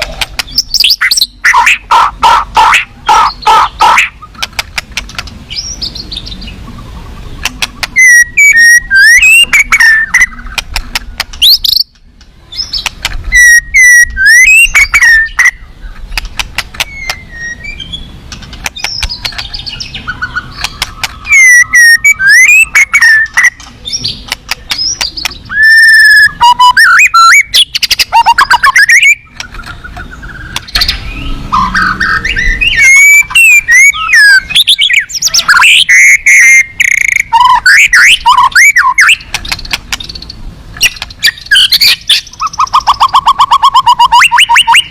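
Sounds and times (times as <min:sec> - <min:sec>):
bird singing whistles and trills: 0:00.5 - 0:01.7, 0:05.5 - 0:16.0, 0:16.8 - 0:18.2, 0:18.8 - 0:44.9.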